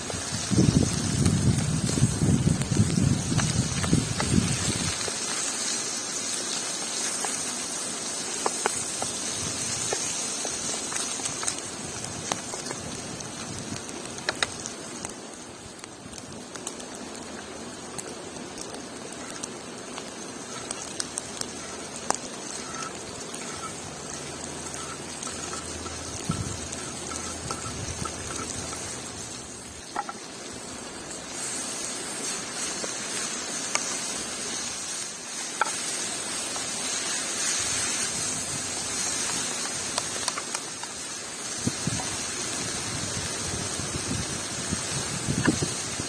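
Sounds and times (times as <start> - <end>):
campfire crackling and popping: 0.0 - 46.0.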